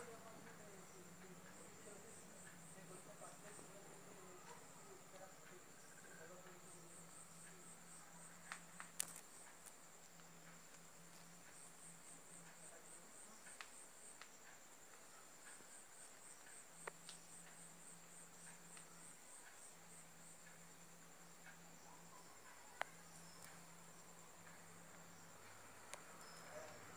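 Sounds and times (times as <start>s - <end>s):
crickets chirping: 0.0s - 26.9s.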